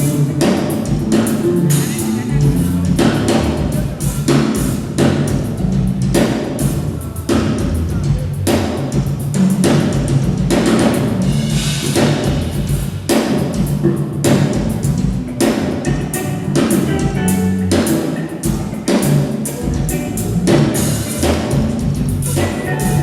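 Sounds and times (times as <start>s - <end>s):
drum kit playing: 0.0s - 23.0s
low-pitched backing: 0.0s - 23.0s.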